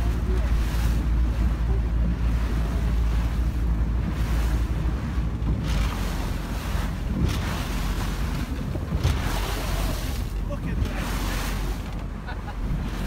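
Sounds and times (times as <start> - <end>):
waves lapping and splashing: 0.0 - 13.0
wind buffeting microphone: 0.0 - 13.0.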